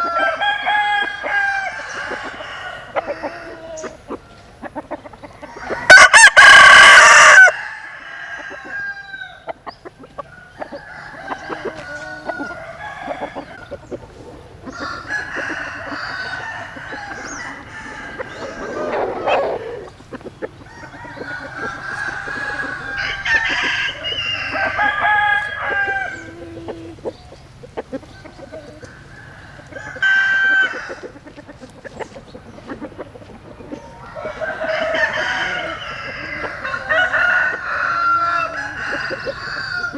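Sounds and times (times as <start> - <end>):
chickens clucking: 0.0 - 39.9
roosters crowing: 0.0 - 39.9.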